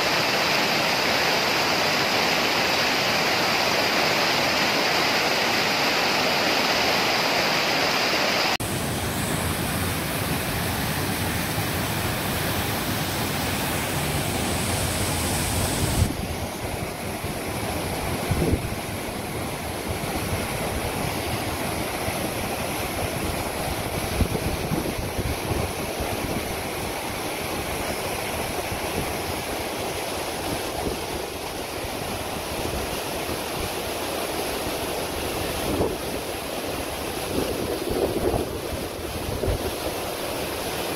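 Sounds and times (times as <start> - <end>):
stream and waterfall rushing: 0.0 - 40.9.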